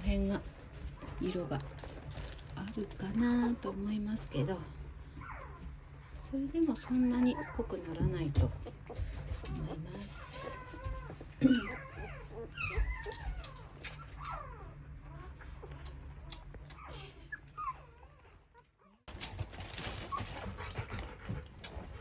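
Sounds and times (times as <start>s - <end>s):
puppies whimpering and squeaking: 3.0s - 21.0s.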